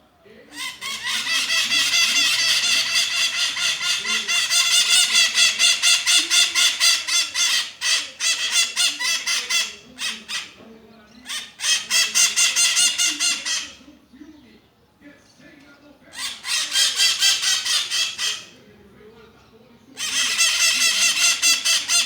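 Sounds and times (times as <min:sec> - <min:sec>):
parrots screeching: 0:00.5 - 0:13.9, 0:16.1 - 0:18.6, 0:20.0 - 0:22.0.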